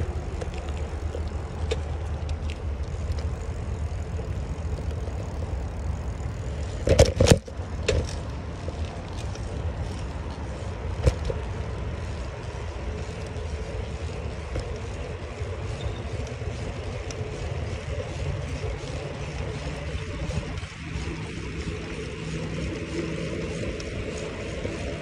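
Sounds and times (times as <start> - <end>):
bicycle tyres rolling on road: 0.0 - 25.0.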